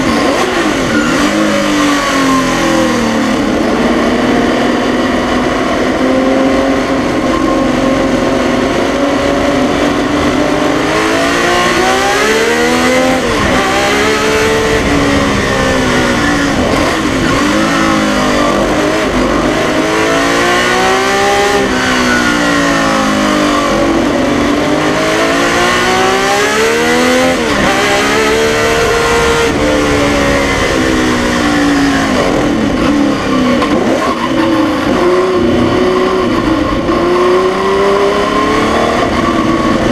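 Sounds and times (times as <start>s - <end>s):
racing car engine accelerating: 0.0s - 39.9s.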